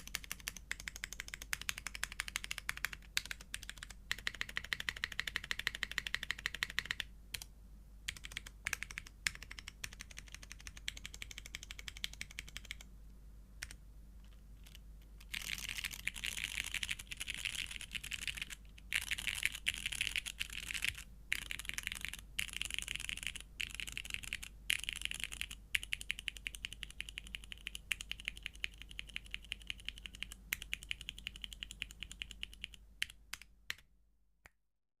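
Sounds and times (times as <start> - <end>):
mechanical keyboard keystrokes: 0.0 - 7.5, 8.1 - 12.8, 14.6 - 33.8.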